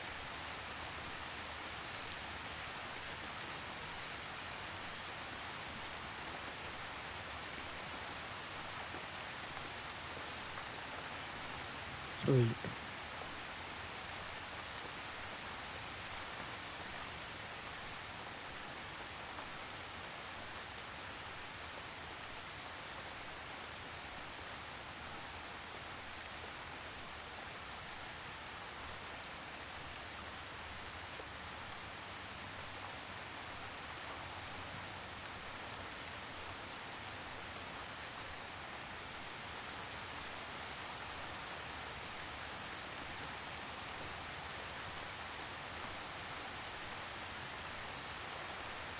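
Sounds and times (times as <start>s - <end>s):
gentle rain falling: 0.0s - 48.9s.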